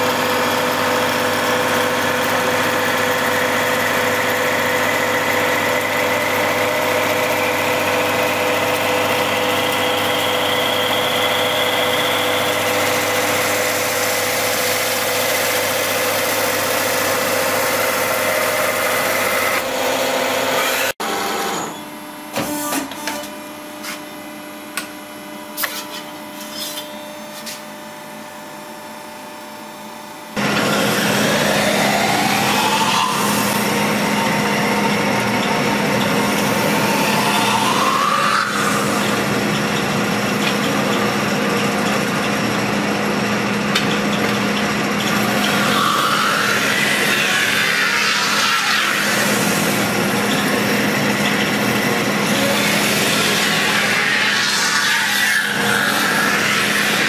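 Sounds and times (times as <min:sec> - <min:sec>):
metal spinning lathe whine: 0:00.0 - 0:22.3, 0:23.2 - 0:57.0.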